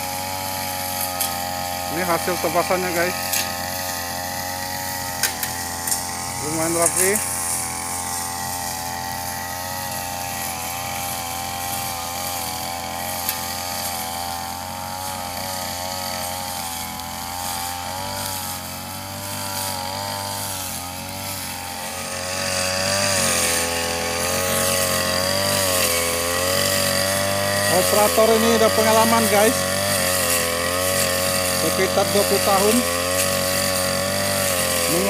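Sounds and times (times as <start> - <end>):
brush cutter engine cutting grass: 0.0 - 35.0.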